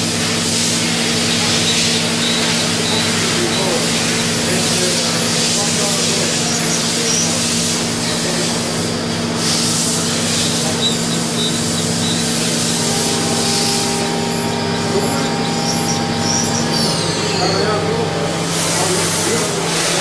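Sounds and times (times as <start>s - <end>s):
high steady machine tone: 0.0s - 20.0s
machine hum with hiss: 0.0s - 20.0s.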